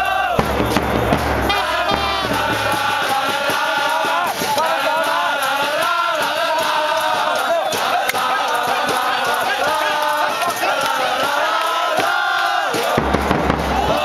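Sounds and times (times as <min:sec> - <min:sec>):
football crowd chanting: 0:00.0 - 0:14.0.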